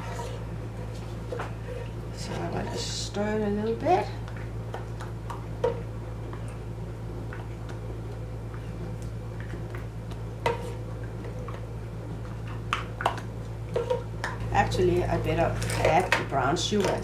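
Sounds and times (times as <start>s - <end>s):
spoon stirring in saucepan: 0.0s - 17.0s
steady low hum: 0.0s - 17.0s.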